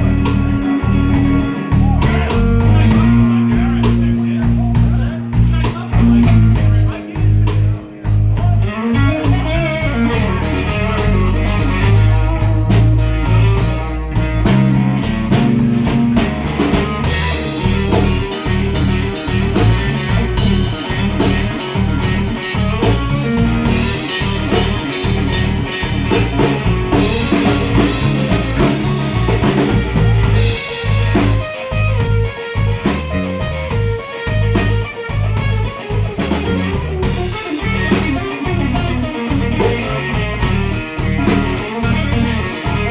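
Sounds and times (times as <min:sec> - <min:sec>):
band playing blues-rock: 0:00.0 - 0:42.9.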